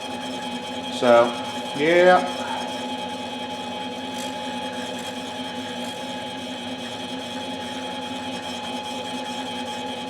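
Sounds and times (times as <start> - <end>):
machine tool humming and whining: 0.0 - 10.0.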